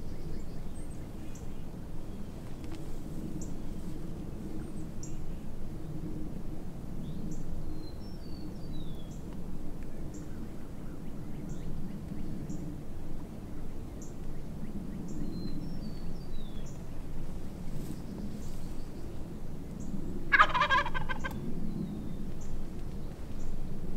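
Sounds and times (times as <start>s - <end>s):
low background rumble: 0.0s - 23.9s.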